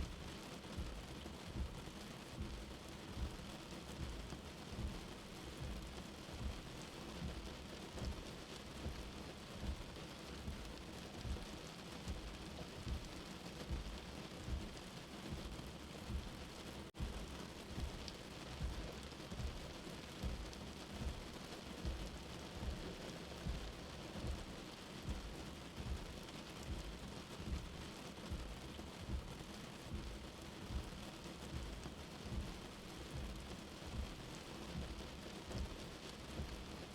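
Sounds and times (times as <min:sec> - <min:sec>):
low heartbeat thumping: 0:00.0 - 0:36.9
steady rain: 0:00.0 - 0:36.9.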